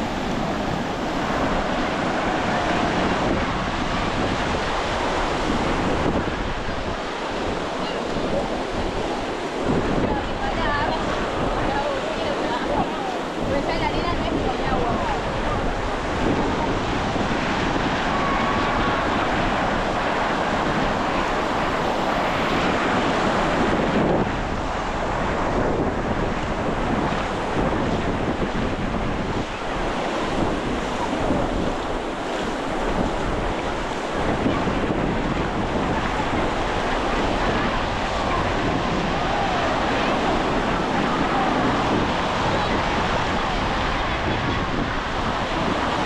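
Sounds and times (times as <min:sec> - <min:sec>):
sea waves washing ashore: 0:00.0 - 0:46.0
wind buffeting microphone: 0:00.0 - 0:46.0.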